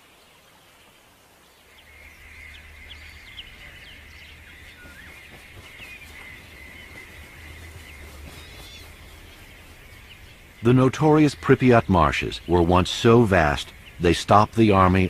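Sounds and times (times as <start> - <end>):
bird chirps and calls: 1.5 - 15.0.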